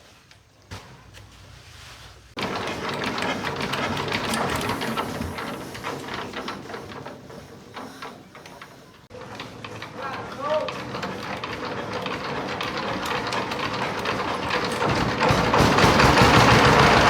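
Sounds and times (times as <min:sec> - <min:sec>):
rapid mechanical rattle: 0:02.4 - 0:17.0.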